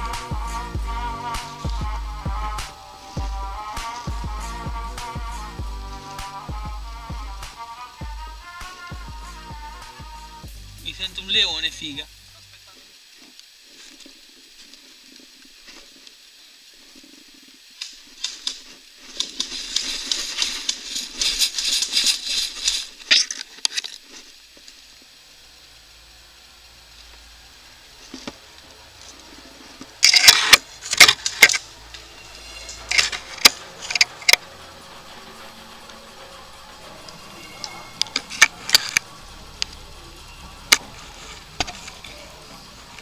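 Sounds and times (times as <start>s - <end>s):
dry leaves rustling and crackling: 0.0s - 43.0s.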